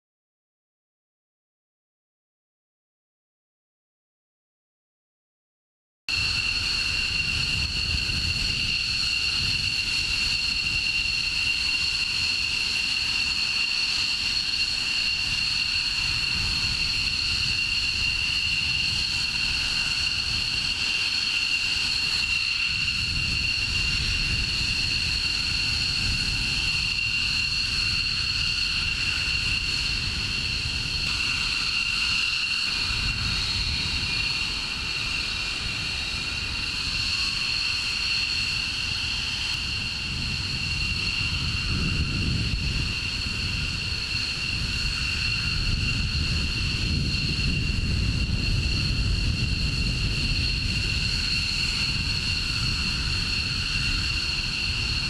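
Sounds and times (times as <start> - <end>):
jet engines idling: 6.1 - 55.0.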